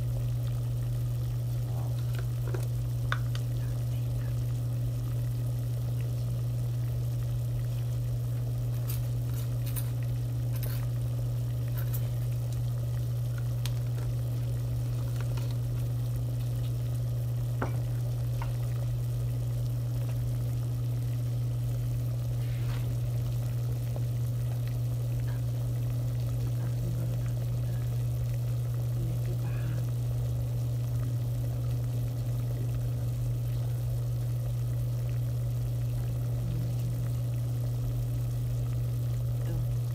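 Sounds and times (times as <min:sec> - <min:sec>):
low hum: 0:00.0 - 0:39.9
water boiling in a pot: 0:00.0 - 0:39.9.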